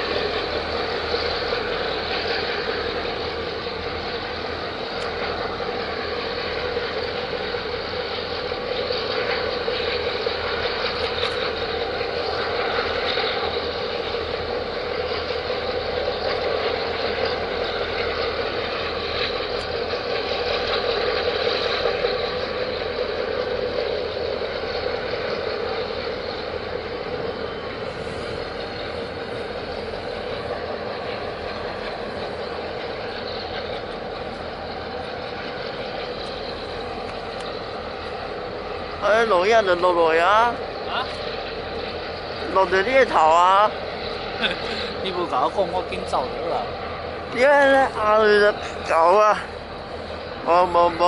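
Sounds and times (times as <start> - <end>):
ship machinery droning: 0.0 - 51.0.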